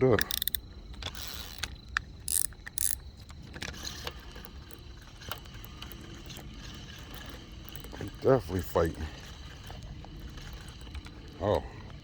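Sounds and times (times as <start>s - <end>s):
sharp metallic reel clicks: 0.0s - 11.6s.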